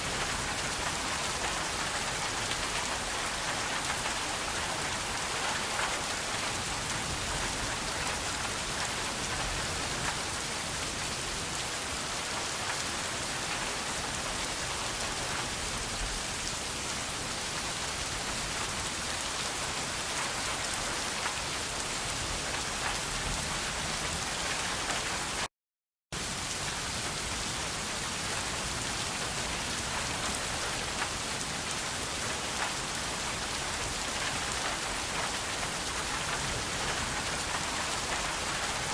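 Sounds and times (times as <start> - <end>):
rain falling on a surface: 0.0 - 25.5, 26.2 - 38.9.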